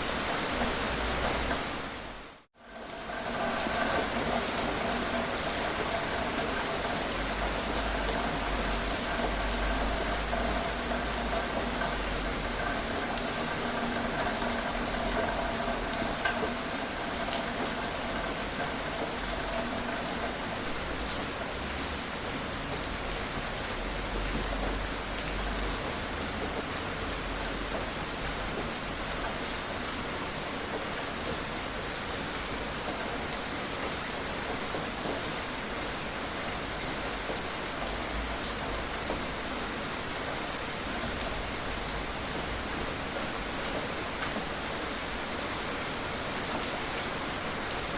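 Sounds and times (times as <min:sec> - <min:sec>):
gentle rain falling: 0:00.0 - 0:47.9.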